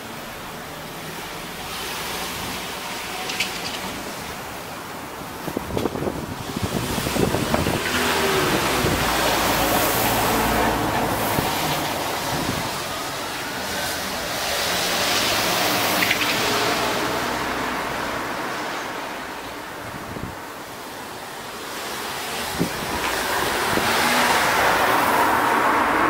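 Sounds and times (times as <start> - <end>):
cars driving past: 0.2 - 26.0
wind rumbling on microphone: 2.2 - 26.0.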